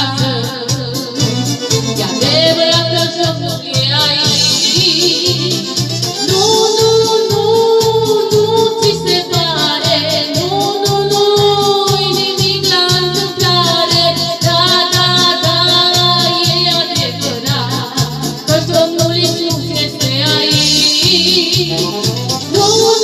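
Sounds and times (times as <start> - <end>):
upbeat christian song: 0.0 - 23.0.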